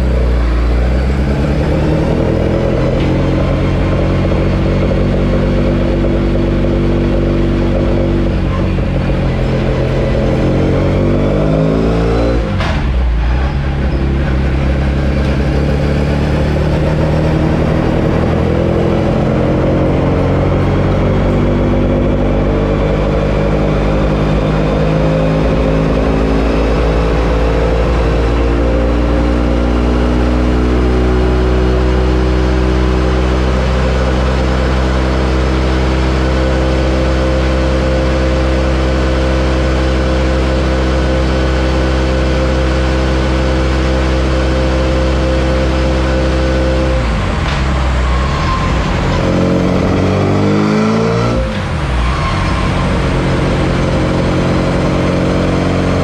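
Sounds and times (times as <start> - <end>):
loud car engine revving: 0.0 - 56.0.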